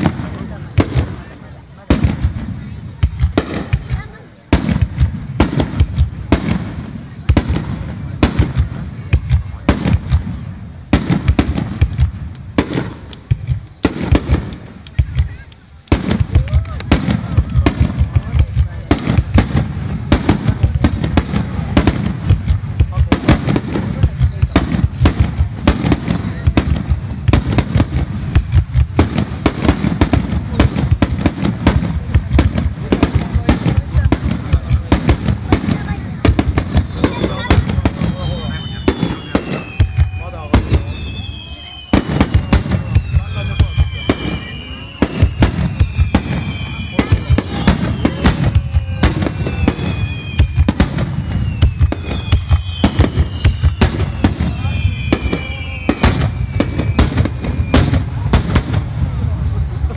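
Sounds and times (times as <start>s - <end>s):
fireworks explosive bursts: 0.0s - 59.9s
faint falling whistles: 5.8s - 59.4s.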